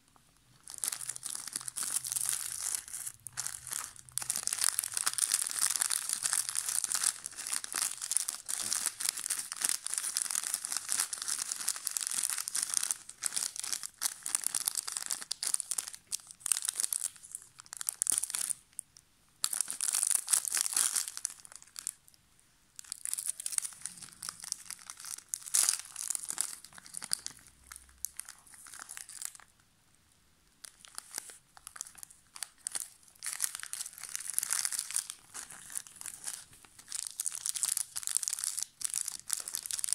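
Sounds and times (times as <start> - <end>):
plastic wrappers crinkling: 0.5 - 18.7, 19.4 - 22.0, 22.8 - 29.5, 30.6 - 39.9.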